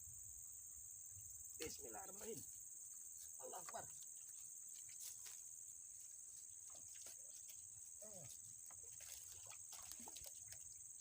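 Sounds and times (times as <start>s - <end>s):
insect chorus buzzing: 0.0s - 11.0s.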